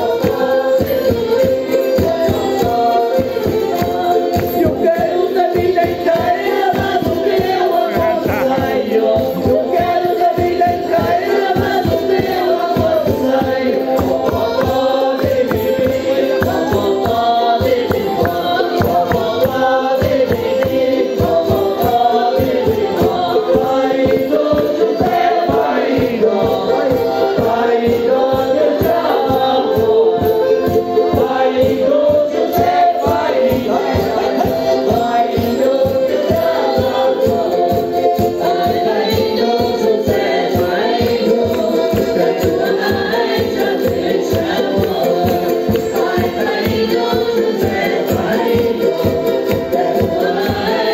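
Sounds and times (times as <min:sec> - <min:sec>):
folk music with group singing: 0:00.0 - 0:50.9.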